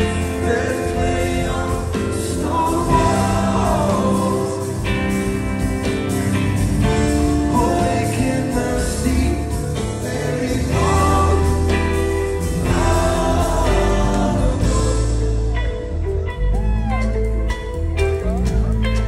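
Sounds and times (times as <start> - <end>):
person singing: 0.0 - 17.3
bass: 0.0 - 19.0
drums: 0.0 - 19.0
electric guitar: 0.0 - 19.0.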